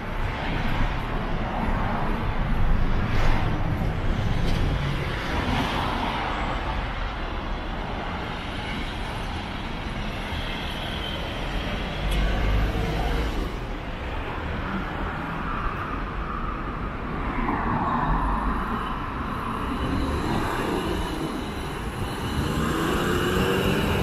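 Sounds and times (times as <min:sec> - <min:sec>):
cars and buses passing: 0:00.0 - 0:24.0.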